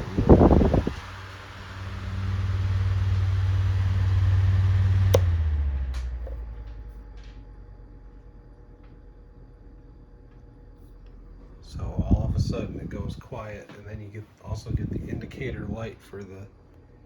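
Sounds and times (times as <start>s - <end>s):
table fan blowing and humming: 0.0s - 17.0s.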